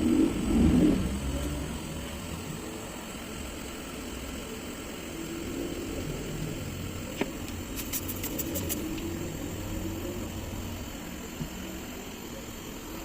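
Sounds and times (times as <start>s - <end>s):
small fan whirring: 0.0s - 13.0s.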